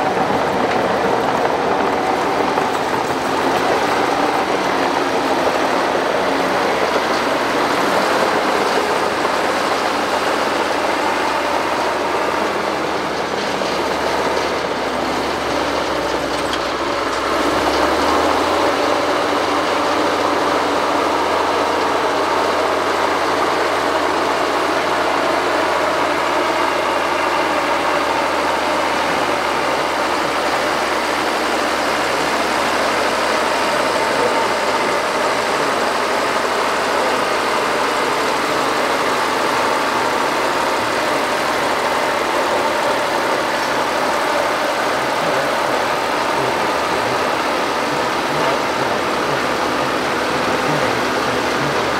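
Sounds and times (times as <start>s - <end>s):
excavator engines droning: 0.0s - 51.9s.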